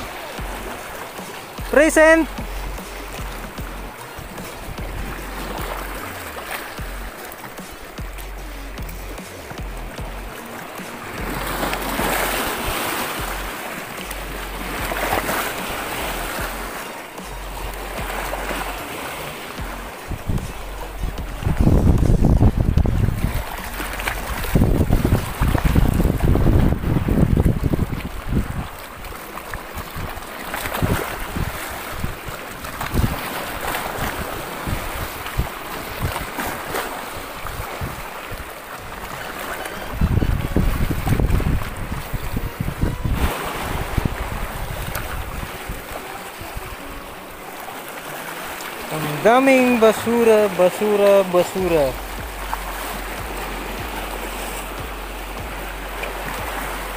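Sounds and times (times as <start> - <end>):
wind buffeting microphone: 0.0 - 47.5, 51.6 - 56.9
waves washing over rocks: 0.0 - 56.9.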